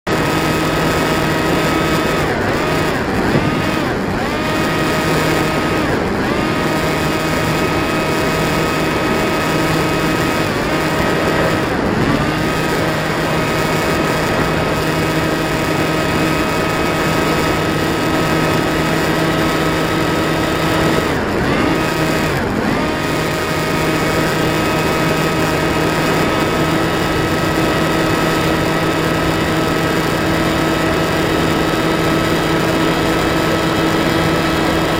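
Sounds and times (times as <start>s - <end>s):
electric propeller motor whine: 0.1s - 34.9s.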